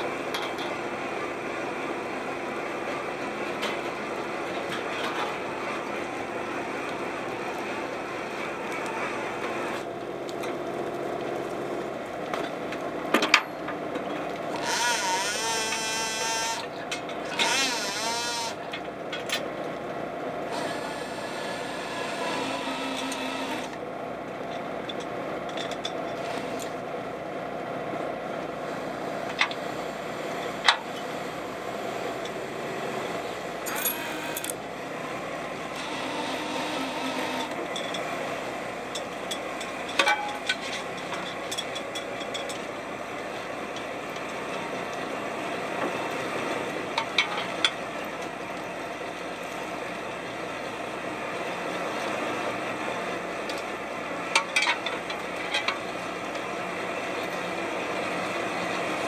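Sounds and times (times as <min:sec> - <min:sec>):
boat engine and machinery hum: 0:00.0 - 0:59.0.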